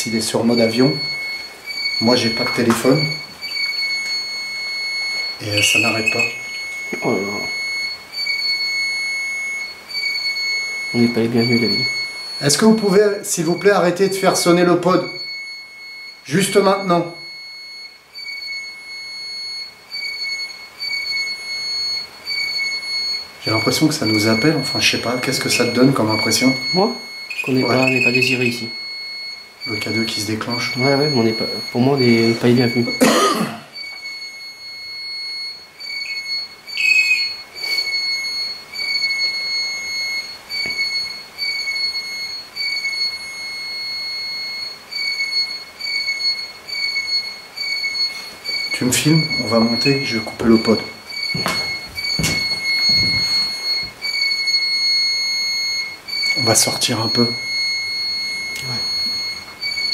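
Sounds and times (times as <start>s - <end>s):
high-pitched electronic alarm tone: 0.0s - 59.9s.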